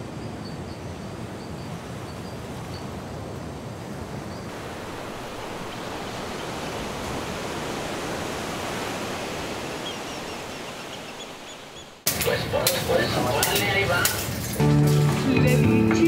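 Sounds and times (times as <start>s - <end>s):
rushing outdoor noise: 0.0s - 15.5s.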